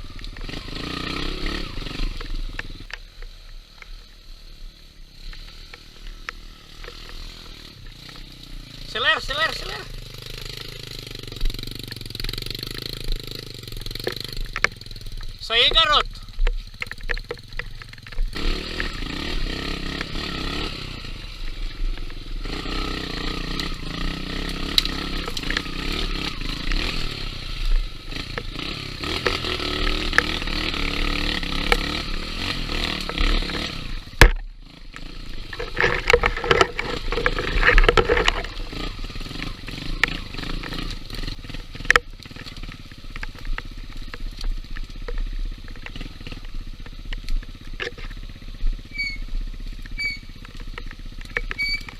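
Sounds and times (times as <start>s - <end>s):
motorcycle engine revving: 0.0s - 51.9s
clatter and scraping: 5.2s - 8.4s, 9.0s - 51.9s.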